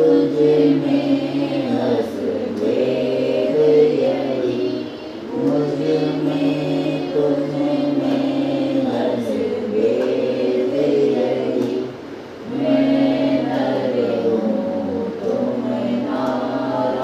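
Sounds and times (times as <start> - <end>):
group singing devotional song: 0.0 - 17.0.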